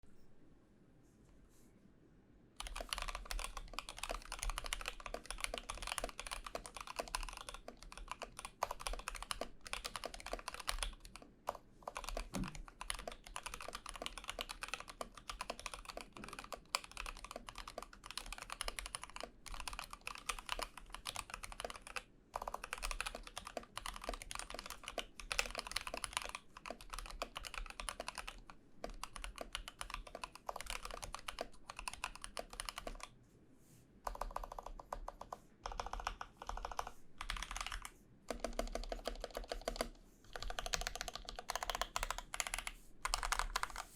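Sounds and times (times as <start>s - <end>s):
mechanical keyboard typing: 2.6s - 33.1s, 34.1s - 43.9s.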